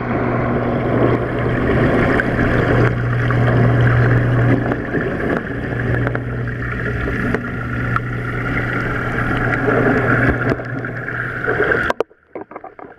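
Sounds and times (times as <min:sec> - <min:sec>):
water pump humming: 0:00.0 - 0:12.9
water rushing and bubbling: 0:00.0 - 0:12.9.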